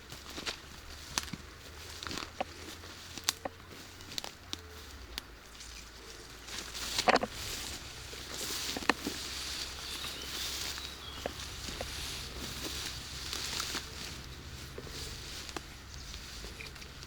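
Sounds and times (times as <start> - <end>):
footsteps through wet vegetation: 0.0 - 17.0.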